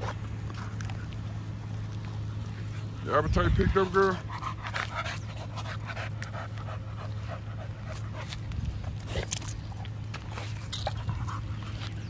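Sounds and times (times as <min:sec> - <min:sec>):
dog panting: 0:02.1 - 0:12.0.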